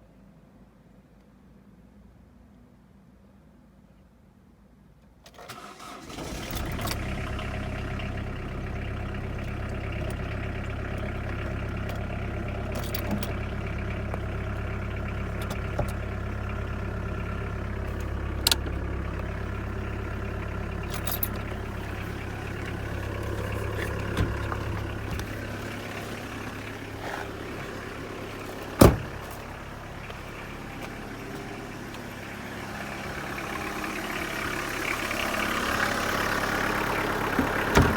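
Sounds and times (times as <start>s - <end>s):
car engine starting and idling: 5.3s - 37.9s.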